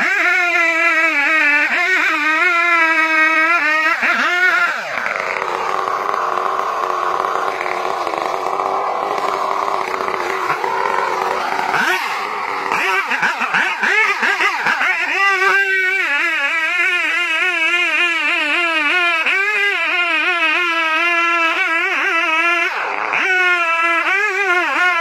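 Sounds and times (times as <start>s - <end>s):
chainsaw cutting: 0.0s - 25.0s.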